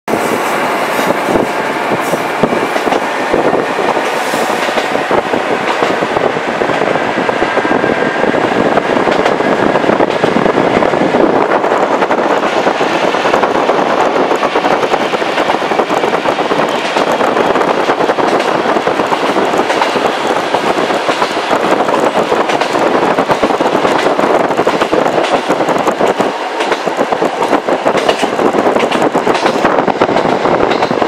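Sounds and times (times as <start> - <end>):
diesel railcar engine rumble: 0.1 - 31.0.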